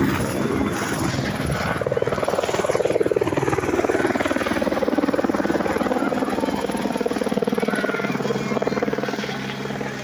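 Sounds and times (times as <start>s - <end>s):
helicopter rotor beating: 0.0s - 10.0s.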